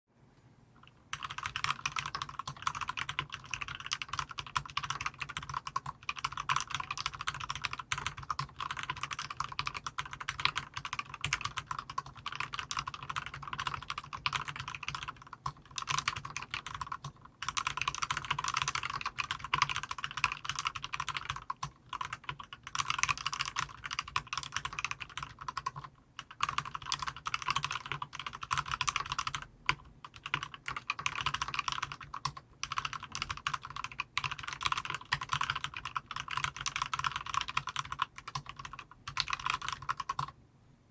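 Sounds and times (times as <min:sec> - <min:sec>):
mechanical keyboard typing: 0:00.8 - 0:40.4.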